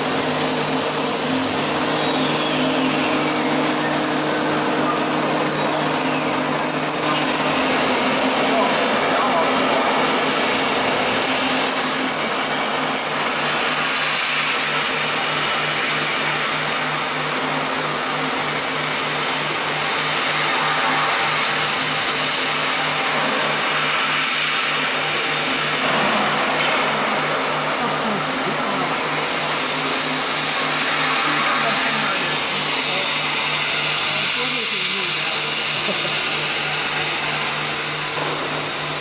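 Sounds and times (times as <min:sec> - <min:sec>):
cnc router milling aluminium: 0:00.0 - 0:39.0.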